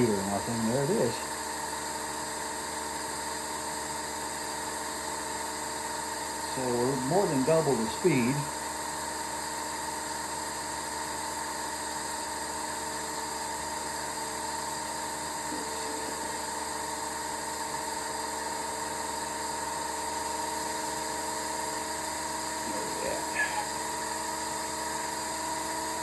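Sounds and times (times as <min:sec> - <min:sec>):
model jet engine whining: 0:00.0 - 0:26.0.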